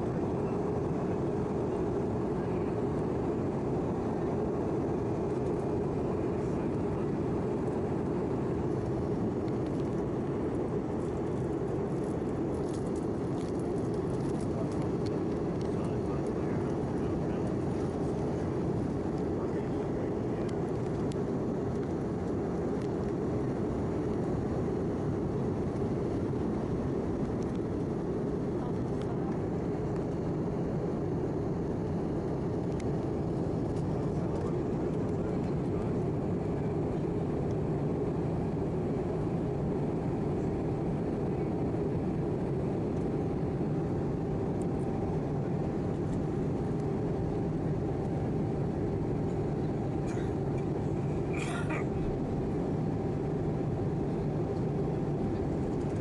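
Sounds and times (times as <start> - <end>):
faint steady whine: 0.0 - 56.0
jet engine drone: 0.0 - 56.0.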